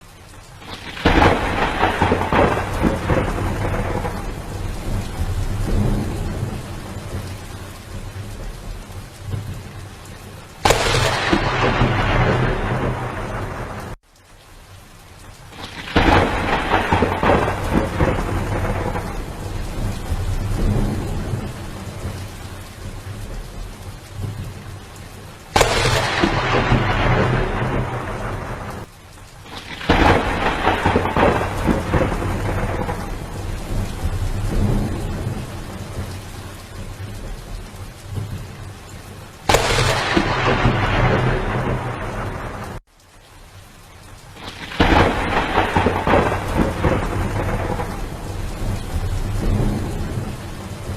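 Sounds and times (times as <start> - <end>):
heavy rain downpour: 0.0 - 50.9
thunder claps rumbling: 0.6 - 14.0, 15.5 - 24.7, 25.5 - 38.8, 39.4 - 42.8, 44.4 - 50.9.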